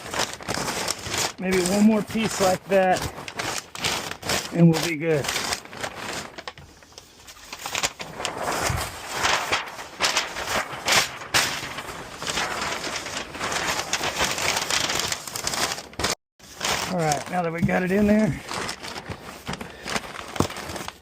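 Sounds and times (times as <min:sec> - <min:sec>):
packing paper crumpling and rustling: 0:00.0 - 0:21.0.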